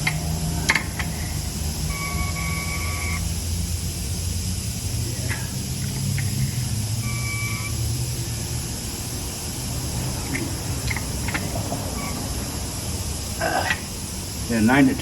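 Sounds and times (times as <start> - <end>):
high hiss: 0.0 - 15.0
machine hum: 0.0 - 15.0.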